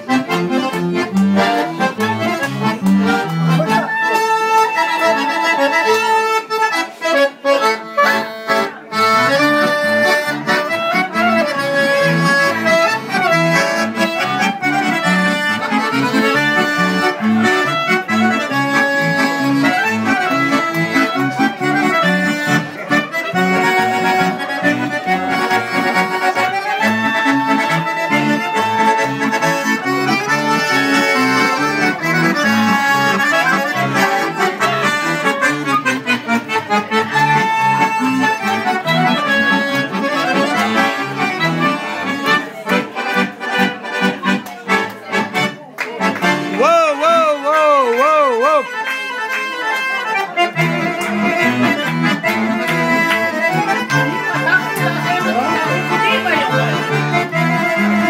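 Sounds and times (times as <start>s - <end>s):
accordions playing: 0.0s - 58.0s
clarinet playing: 1.4s - 42.6s, 46.5s - 50.0s, 52.5s - 58.0s.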